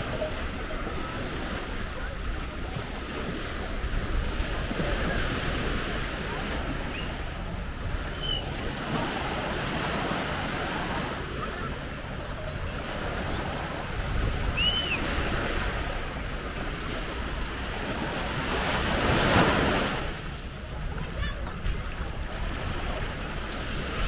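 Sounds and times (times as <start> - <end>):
sea waves washing onto beach: 0.0 - 24.0.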